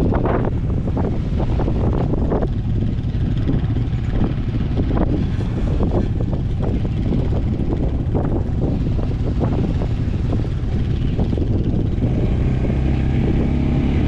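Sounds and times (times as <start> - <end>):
vehicle on dirt trail: 0.0 - 14.0
wind on microphone: 0.0 - 14.0.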